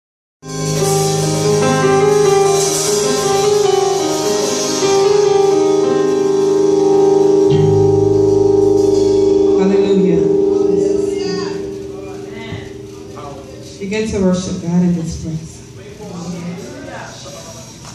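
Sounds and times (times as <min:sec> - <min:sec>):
keyboard playing held chords: 0:00.4 - 0:16.4.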